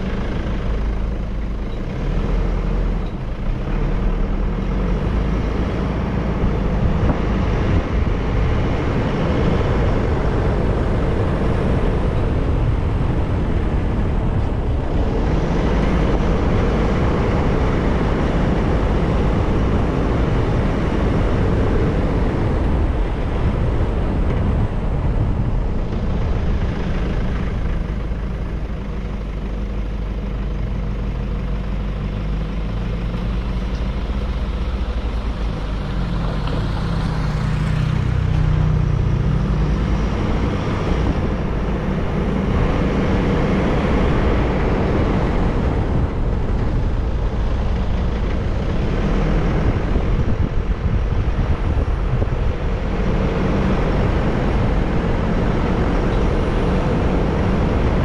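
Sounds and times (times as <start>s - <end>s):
motorcycle engine rumble: 0.0s - 58.0s
wind noise: 2.9s - 29.2s, 32.7s - 58.0s.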